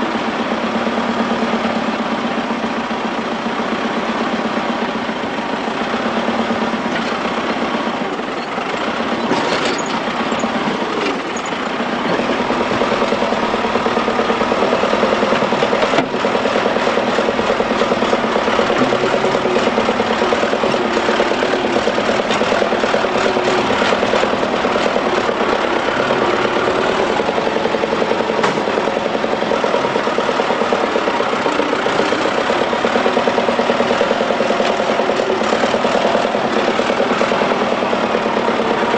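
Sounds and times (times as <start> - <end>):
heavy diesel engines under load: 0.0 - 38.9.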